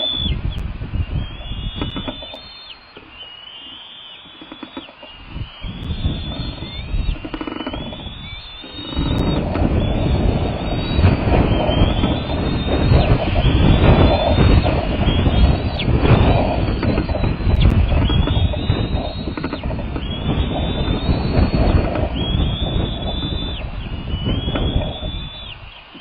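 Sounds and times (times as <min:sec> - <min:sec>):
wind buffeting microphone: 0:00.0 - 0:03.3, 0:04.2 - 0:26.0
eaglet whining calls: 0:00.0 - 0:26.0.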